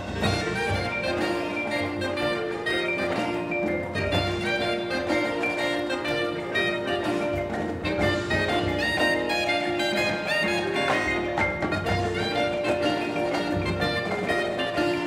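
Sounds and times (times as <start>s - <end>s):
mallet percussion notes: 0.0s - 15.0s
marching band playing: 0.0s - 15.0s.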